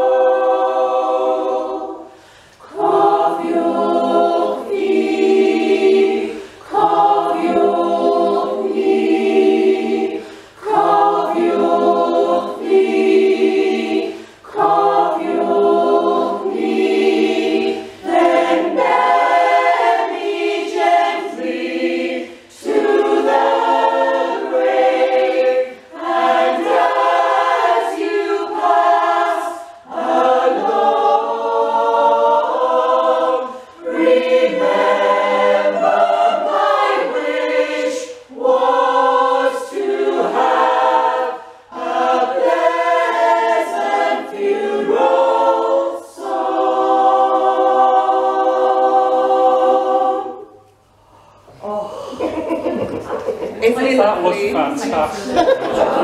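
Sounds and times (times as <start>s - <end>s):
mixed choir singing unaccompanied: 0.0s - 56.0s.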